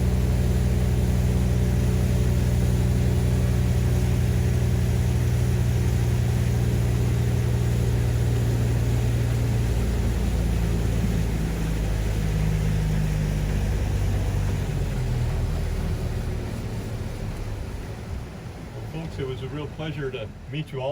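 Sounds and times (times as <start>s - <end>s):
boat engine running: 0.0s - 20.9s.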